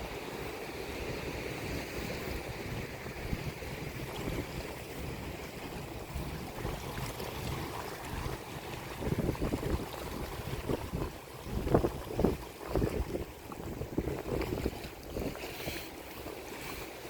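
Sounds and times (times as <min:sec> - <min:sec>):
wind buffeting microphone: 0:00.0 - 0:15.8
sea waves washing on shore: 0:00.0 - 0:17.0.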